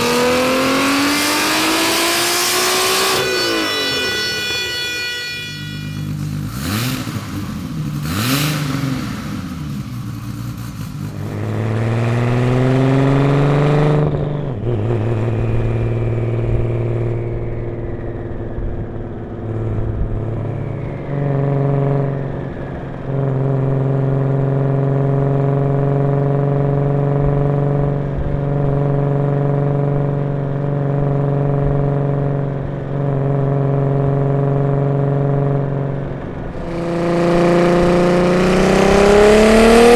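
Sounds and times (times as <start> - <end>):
car engine revving: 0.0 - 24.9, 31.0 - 39.9.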